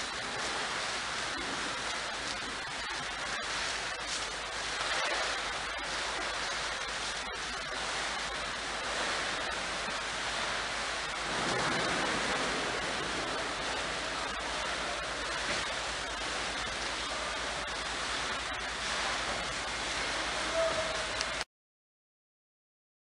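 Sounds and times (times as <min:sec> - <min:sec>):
low hum: 0:00.0 - 0:21.4
water jets splashing: 0:00.0 - 0:21.5.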